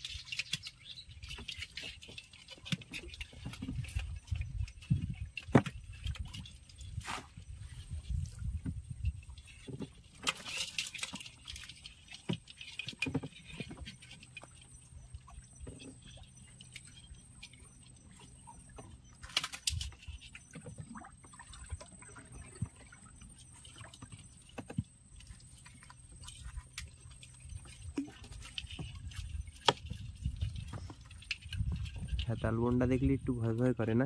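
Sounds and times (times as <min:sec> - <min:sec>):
small knocks and clicks on boat: 0:00.0 - 0:06.8, 0:08.4 - 0:32.2
low steady hum: 0:00.0 - 0:34.0
water drips and splashes: 0:00.0 - 0:34.0.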